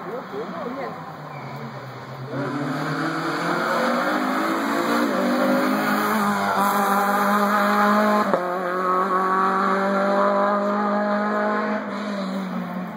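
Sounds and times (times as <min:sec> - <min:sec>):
rally car engine passing: 0:00.2 - 0:12.9.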